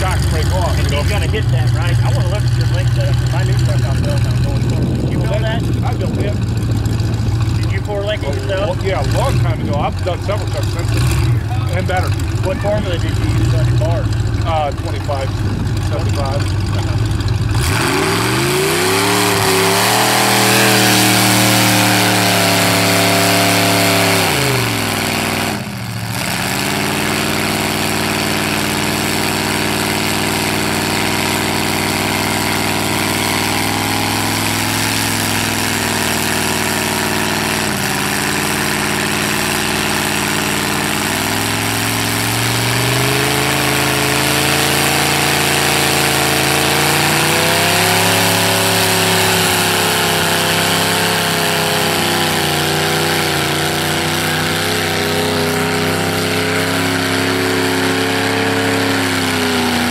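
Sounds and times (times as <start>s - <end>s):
truck engine revving high: 0.0s - 59.9s.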